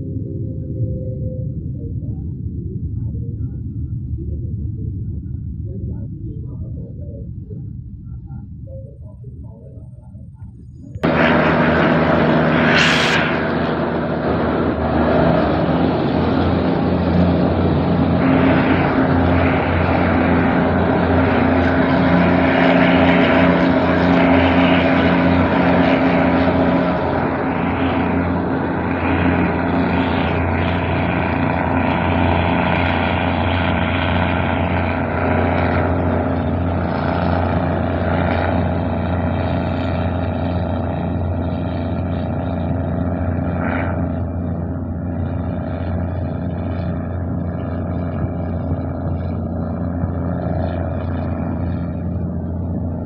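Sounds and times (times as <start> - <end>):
train engine hum: 0.0 - 53.0.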